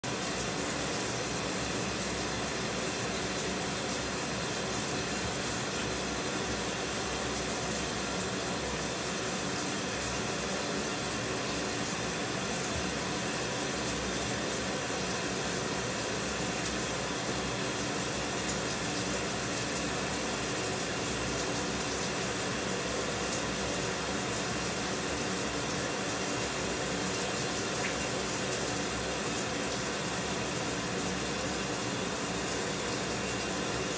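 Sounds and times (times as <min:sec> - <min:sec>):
shower running: 0:00.0 - 0:33.9.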